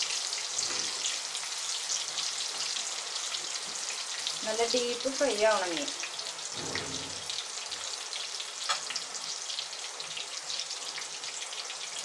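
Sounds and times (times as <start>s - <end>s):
potatoes deep-frying in oil: 0.0s - 12.0s.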